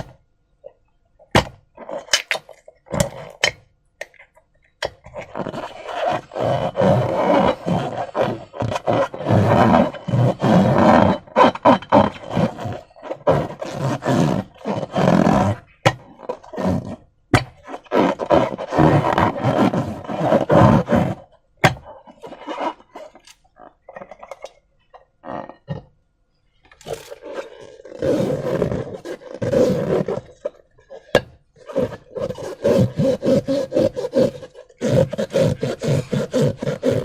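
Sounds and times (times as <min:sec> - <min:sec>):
rubbery balloon rubbing: 0:00.0 - 0:00.2, 0:01.2 - 0:03.6, 0:04.8 - 0:25.9, 0:26.7 - 0:37.0.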